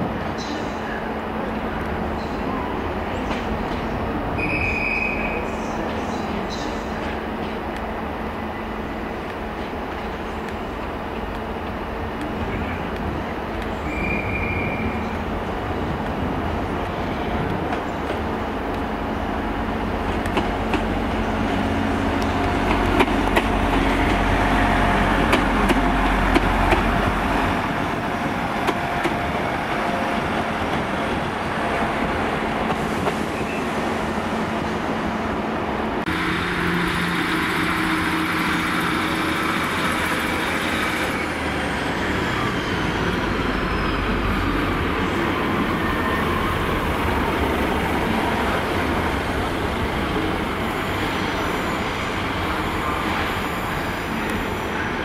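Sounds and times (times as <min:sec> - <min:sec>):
diesel train engines running: 0:00.0 - 0:55.0.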